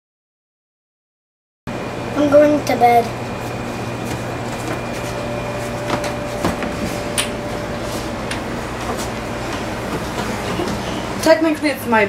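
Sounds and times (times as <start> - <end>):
room hum: 1.7 - 12.0.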